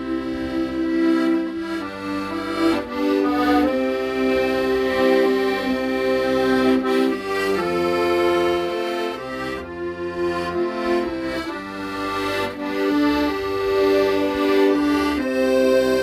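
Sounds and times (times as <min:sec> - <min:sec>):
accordion playing slow melody: 0:00.0 - 0:16.0.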